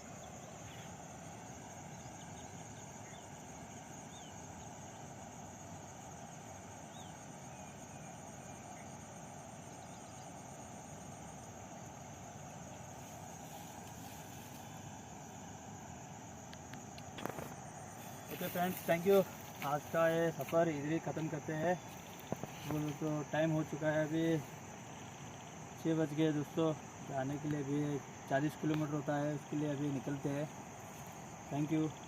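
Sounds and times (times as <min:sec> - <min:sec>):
low background hiss: 0:00.0 - 0:32.0.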